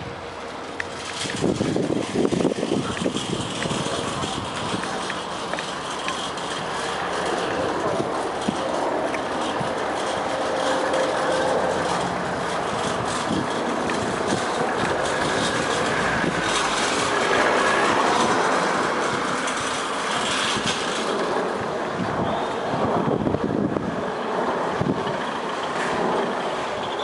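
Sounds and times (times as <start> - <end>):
shopping trolley rattling on asphalt: 0.0 - 27.0.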